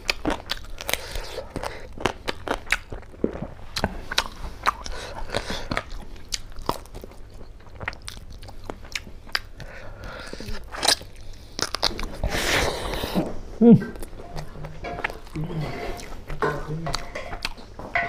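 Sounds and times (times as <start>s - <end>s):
mouth chewing food: 0.0s - 17.8s.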